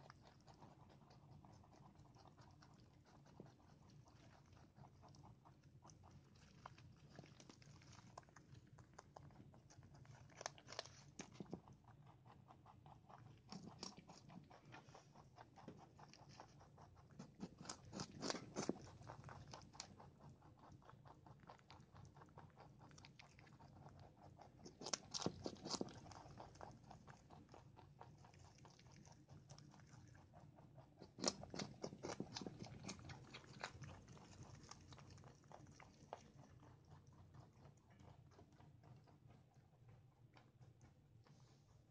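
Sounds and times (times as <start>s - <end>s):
rabbits chewing leafy greens: 0.0s - 41.9s.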